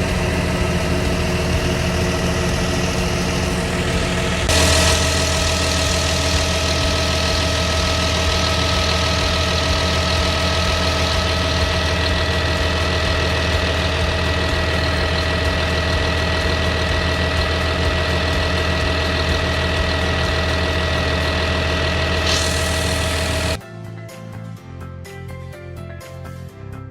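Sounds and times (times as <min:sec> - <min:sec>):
diesel engine idling: 0:00.0 - 0:23.6
high-pitched whine: 0:00.0 - 0:23.6.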